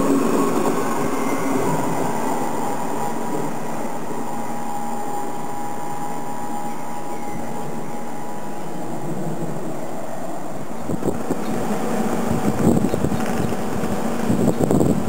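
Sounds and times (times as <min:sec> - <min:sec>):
electric train pulling away: 0:00.0 - 0:15.0
high electric whine: 0:00.0 - 0:15.0.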